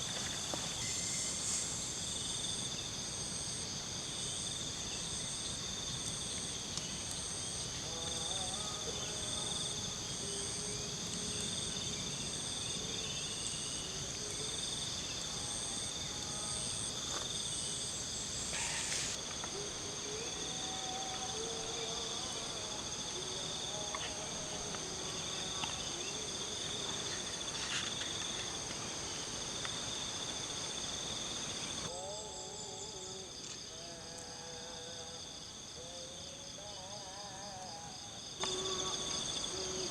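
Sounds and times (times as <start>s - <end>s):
faint wavering lower insect calls: 0.0s - 39.9s
shrill insect trills: 0.0s - 39.9s.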